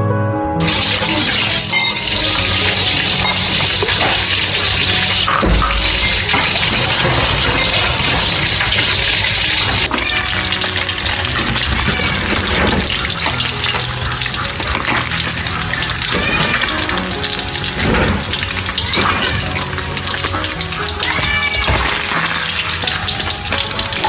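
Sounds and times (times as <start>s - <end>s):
background music: 0.0s - 24.0s
fish sizzling in oil: 0.6s - 24.0s.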